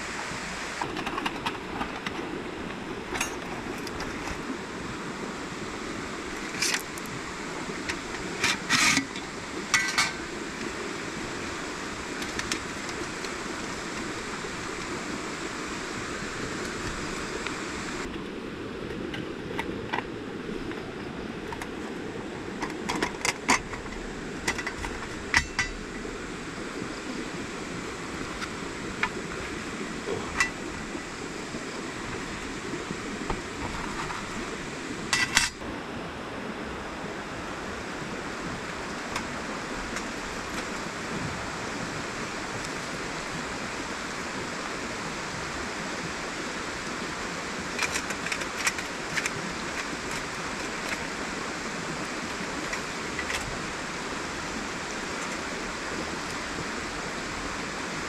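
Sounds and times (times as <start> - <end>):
river rushing: 0.0 - 58.0.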